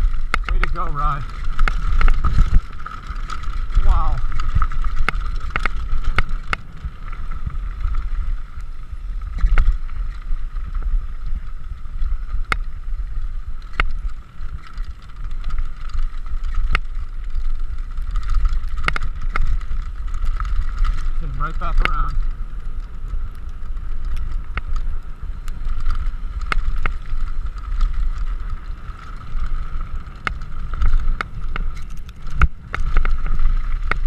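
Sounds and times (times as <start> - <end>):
bike knocking on stones: 0.0 - 11.5, 13.6 - 34.0
wind rumble on microphone: 0.0 - 34.0.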